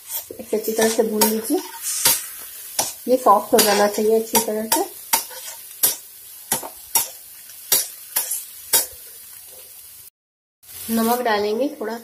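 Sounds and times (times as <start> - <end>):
metal spatula scraping a pan: 0.0 - 9.7
faint sizzle: 0.0 - 10.1, 10.7 - 12.0.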